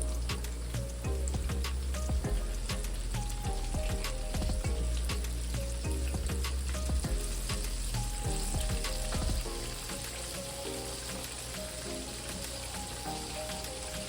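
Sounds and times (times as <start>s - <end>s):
background music with bass line: 0.0s - 14.0s
kitchen sizzling and clicks: 0.0s - 14.0s.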